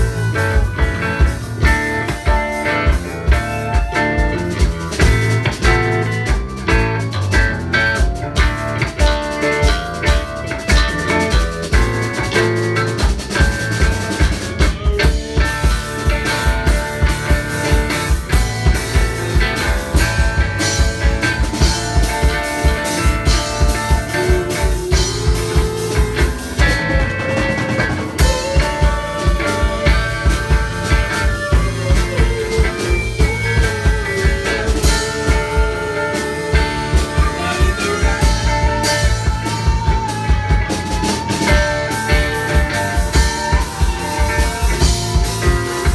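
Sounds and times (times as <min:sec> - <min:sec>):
bass guitar: 0:00.0 - 0:45.9
bending lead guitar line: 0:00.0 - 0:45.9
drum kit steady beat: 0:00.0 - 0:45.9
electric guitars: 0:00.0 - 0:45.9.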